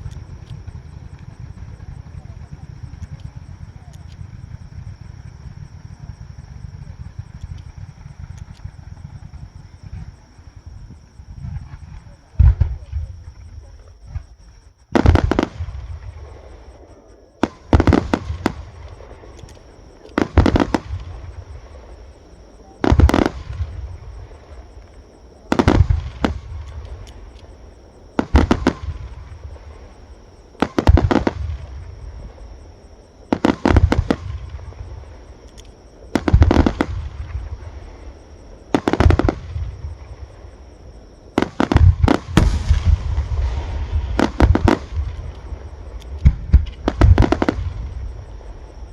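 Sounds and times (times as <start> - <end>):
fireworks bursting: 0.0 - 48.9.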